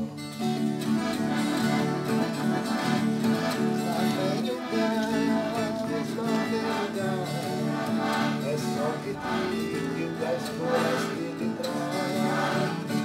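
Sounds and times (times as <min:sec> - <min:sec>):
country acoustic guitar: 0:00.0 - 0:13.0.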